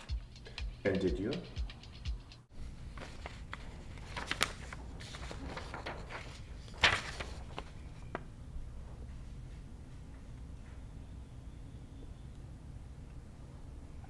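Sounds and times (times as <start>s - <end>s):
steady low hum: 2.5s - 14.0s.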